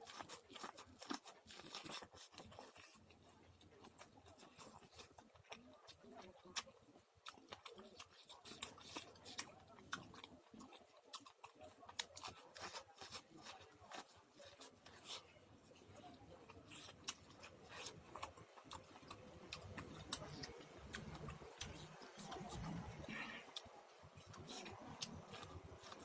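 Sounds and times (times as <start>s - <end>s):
popcorn being chewed: 0.0s - 26.0s.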